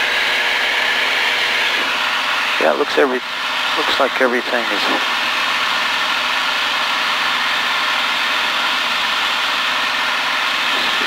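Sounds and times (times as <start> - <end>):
light plane engine and propeller: 0.0 - 11.0.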